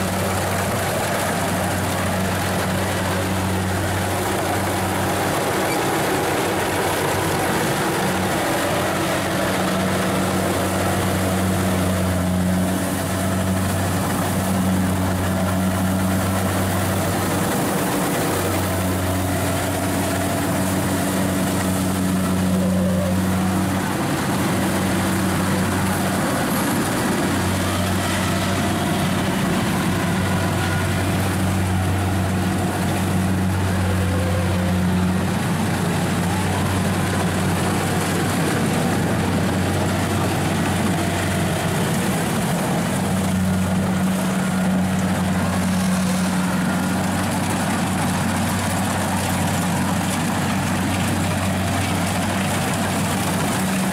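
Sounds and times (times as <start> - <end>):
combine harvester engine drone: 0.0 - 53.9.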